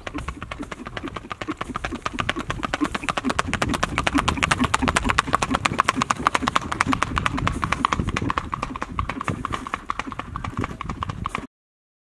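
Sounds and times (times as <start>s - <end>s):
horse hooves on asphalt: 0.0s - 11.5s.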